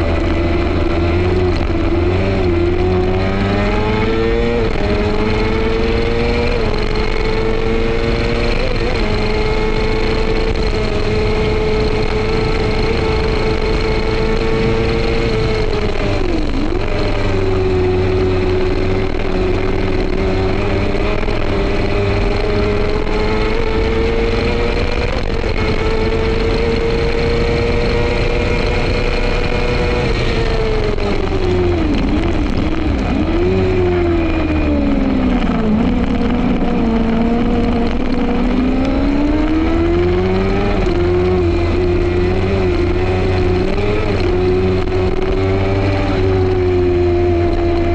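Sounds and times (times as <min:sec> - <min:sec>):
racing engine at high revs: 0:00.0 - 0:47.9
wind rush: 0:00.0 - 0:47.9.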